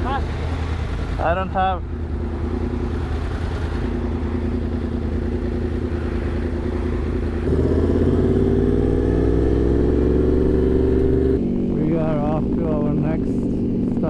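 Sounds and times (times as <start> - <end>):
motorcycle engine revving up: 0.0 - 14.0.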